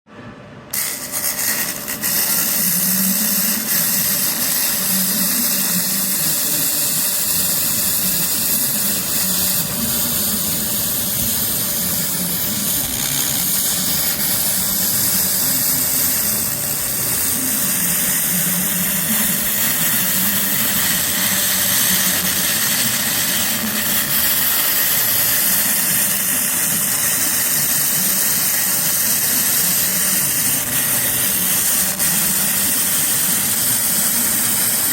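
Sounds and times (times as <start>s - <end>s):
constant machine hum: 0.1s - 34.9s
laser cleaner sizzling hiss: 0.7s - 34.9s.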